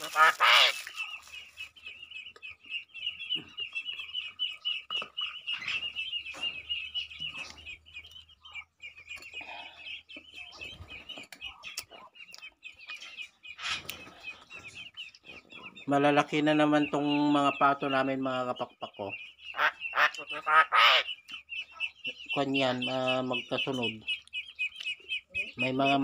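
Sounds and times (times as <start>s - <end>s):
ducklings peeping: 0.0s - 26.0s.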